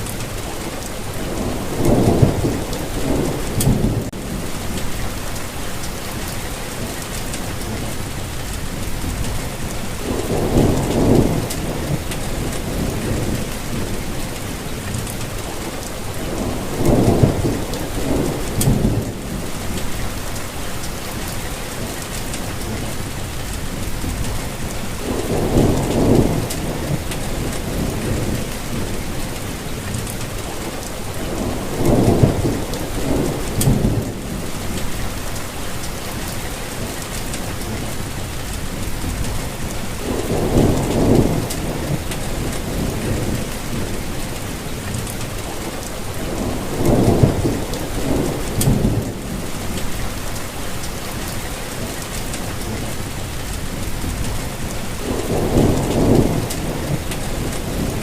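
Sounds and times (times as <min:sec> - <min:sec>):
low thunder rumbles: 0:00.0 - 0:06.7, 0:07.5 - 0:21.4, 0:22.5 - 0:36.5, 0:37.5 - 0:51.5, 0:52.5 - 0:58.0
steady rain falling: 0:00.0 - 0:58.0.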